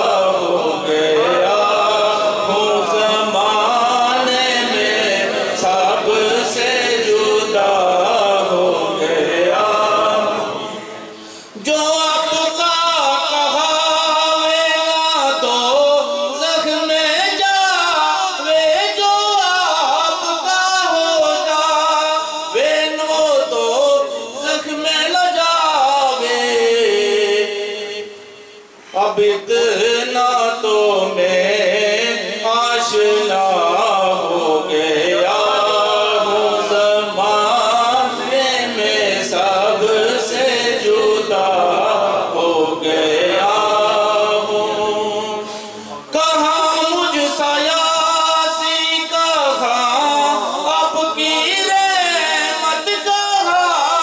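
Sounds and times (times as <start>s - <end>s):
man singing unaccompanied: 0.0s - 54.0s.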